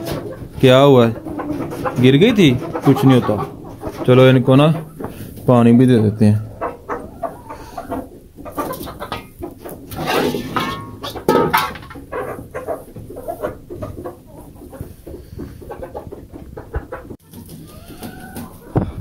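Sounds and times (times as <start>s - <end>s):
ducks and chickens calling: 0.0s - 19.0s.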